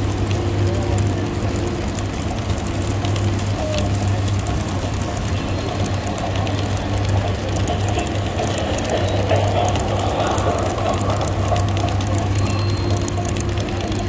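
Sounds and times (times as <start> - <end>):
low electric hum: 0.0 - 14.0
metal wheels rattling on track: 0.0 - 14.0.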